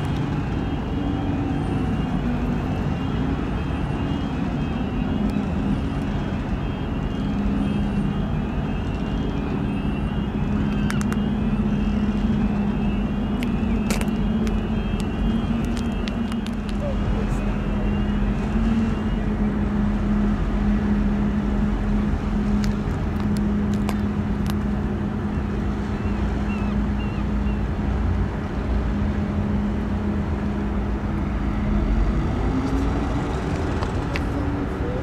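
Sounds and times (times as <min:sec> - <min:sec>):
engine drone: 0:00.0 - 0:35.0.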